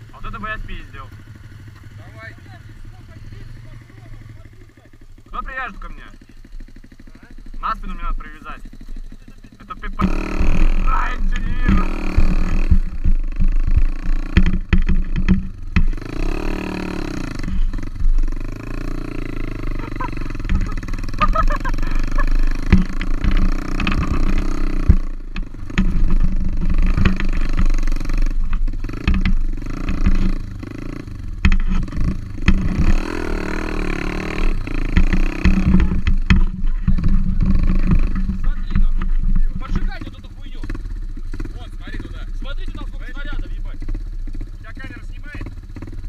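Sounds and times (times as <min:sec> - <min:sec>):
motorbike engine revving: 0:00.0 - 0:46.0.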